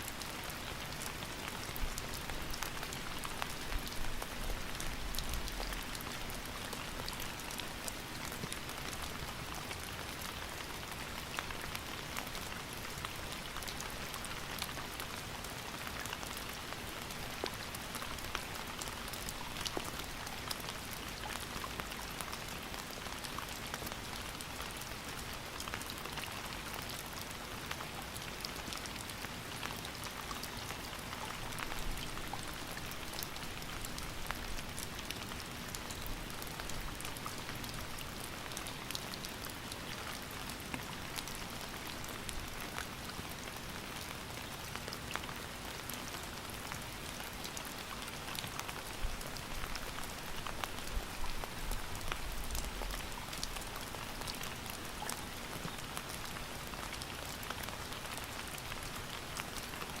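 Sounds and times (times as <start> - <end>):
steady rain pattering: 0.0 - 60.0.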